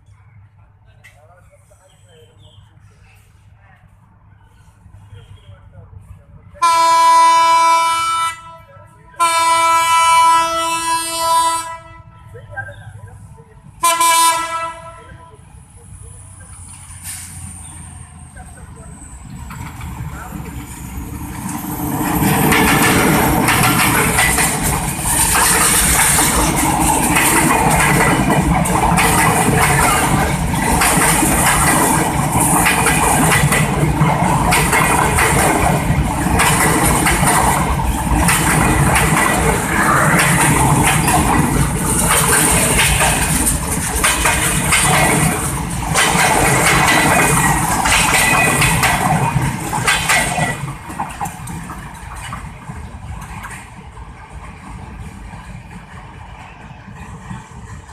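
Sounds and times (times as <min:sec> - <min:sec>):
diesel locomotive passing: 0:00.0 - 0:57.9
wheels clacking on rails: 0:00.0 - 0:57.9.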